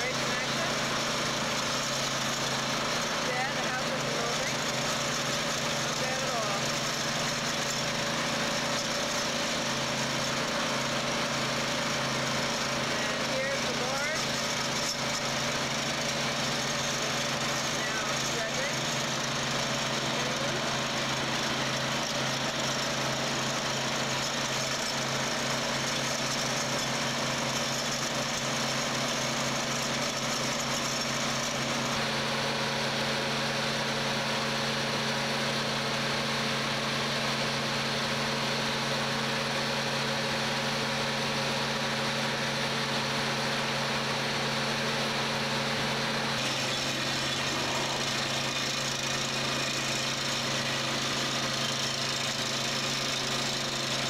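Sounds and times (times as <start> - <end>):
crane diesel engine idling: 0.0 - 54.0.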